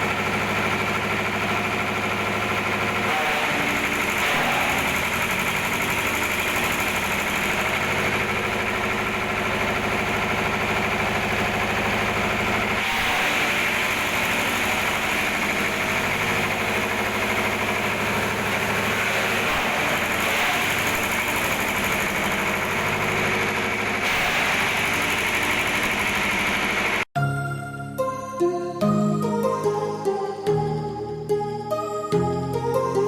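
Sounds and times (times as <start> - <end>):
diesel engine running: 0.0 - 27.1.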